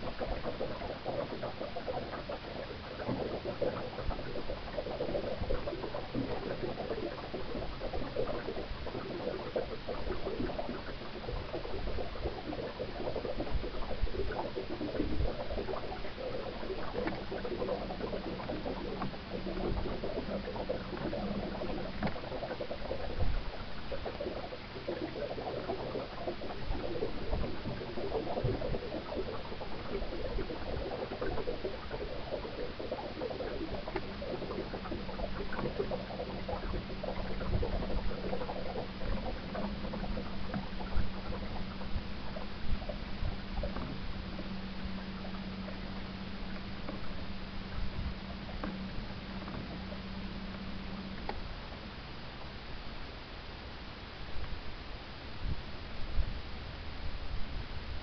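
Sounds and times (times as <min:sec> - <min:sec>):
water splashing against boat hull: 0:00.0 - 0:51.8
faint motor hum: 0:00.0 - 0:58.0.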